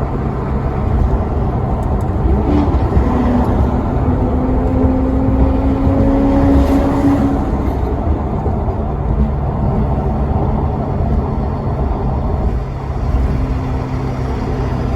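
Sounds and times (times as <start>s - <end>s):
car engine droning: 0.0s - 14.9s.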